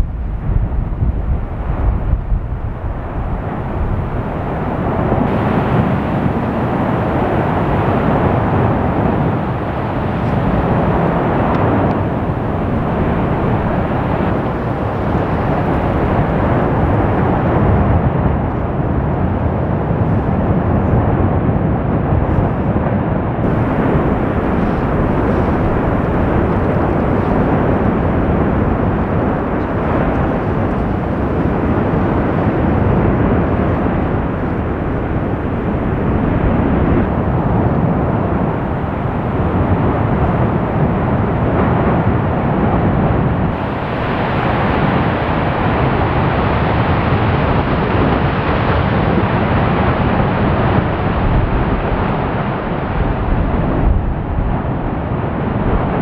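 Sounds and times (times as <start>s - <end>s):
deep rushing rumble of lava: 0.0s - 56.0s.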